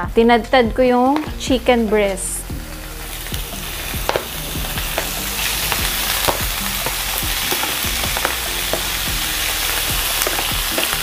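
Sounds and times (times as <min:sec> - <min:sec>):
meat sizzling in hot oil: 0:01.0 - 0:11.0.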